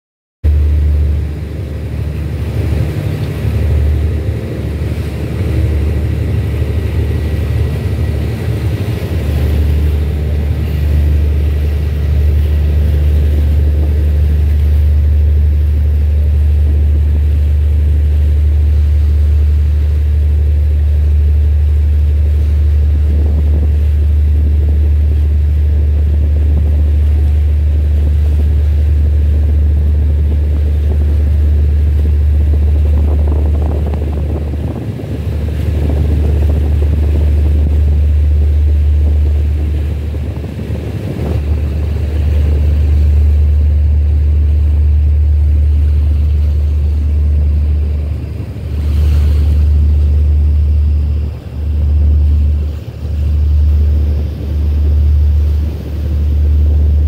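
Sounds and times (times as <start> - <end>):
low engine drone: 0.4 - 57.0.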